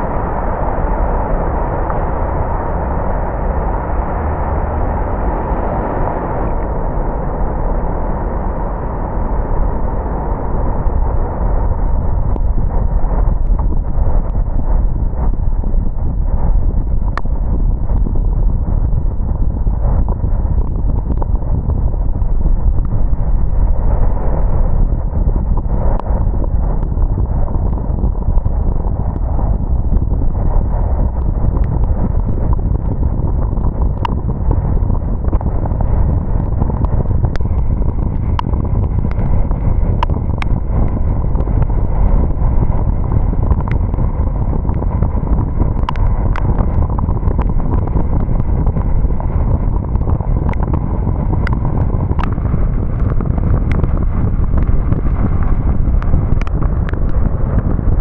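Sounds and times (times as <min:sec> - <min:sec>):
car road and tyre rumble: 0:00.0 - 0:58.0.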